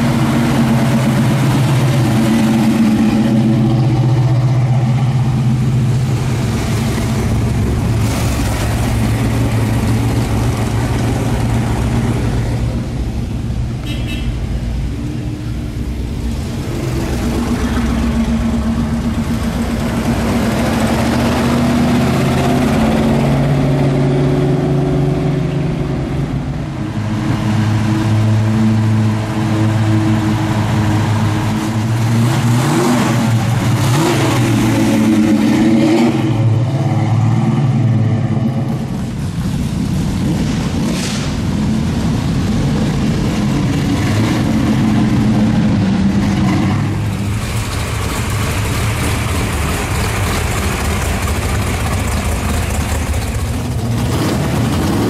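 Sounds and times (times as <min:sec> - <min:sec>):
car engines rumbling past: 0:00.0 - 0:55.0.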